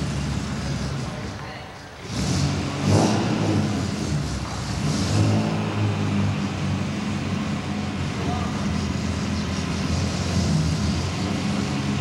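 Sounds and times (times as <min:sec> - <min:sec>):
car engine running: 0:02.1 - 0:12.0.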